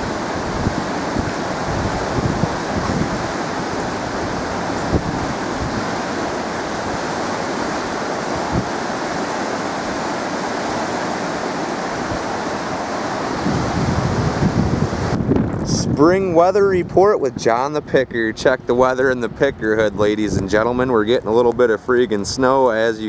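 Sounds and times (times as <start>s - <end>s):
water rushing through a dam: 0.0s - 23.0s
wind buffeting the microphone: 0.0s - 23.0s.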